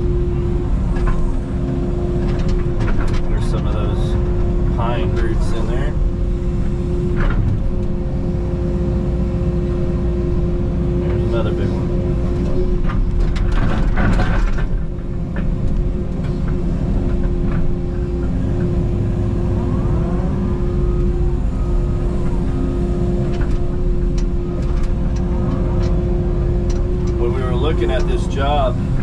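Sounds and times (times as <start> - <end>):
excavator diesel engine whining: 0.0 - 29.0.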